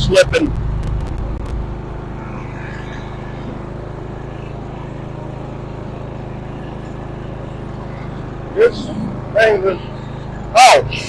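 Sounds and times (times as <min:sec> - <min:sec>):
riding mower engine running: 0:00.0 - 0:11.0.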